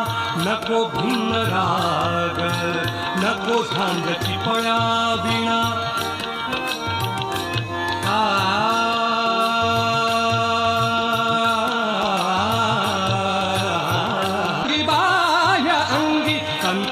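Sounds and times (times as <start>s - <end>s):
person singing ornamented phrases: 0.0s - 6.0s, 8.1s - 16.9s.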